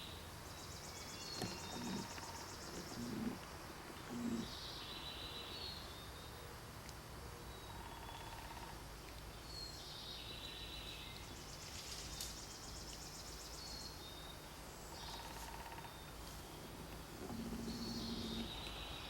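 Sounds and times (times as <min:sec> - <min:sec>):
small birds singing and chirping: 0:00.0 - 0:06.4, 0:09.0 - 0:19.0.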